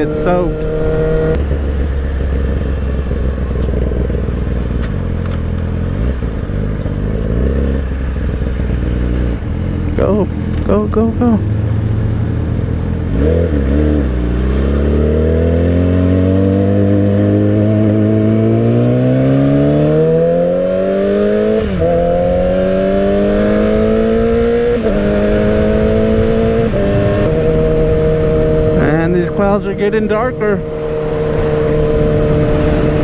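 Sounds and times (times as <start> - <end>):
motorcycle engine revving and upshifting: 0.0 - 33.0.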